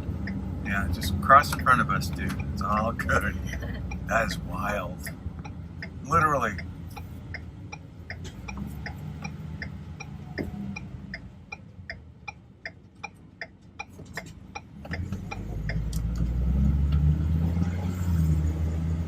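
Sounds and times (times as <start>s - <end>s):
low vehicle rumble: 0.0s - 19.0s
indicator relay ticking: 0.1s - 2.8s, 3.5s - 16.2s.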